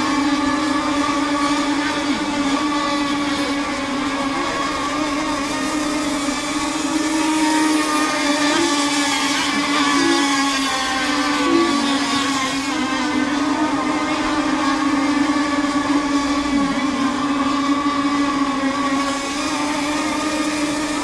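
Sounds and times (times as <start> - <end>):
model boat engines whining: 0.0 - 21.0.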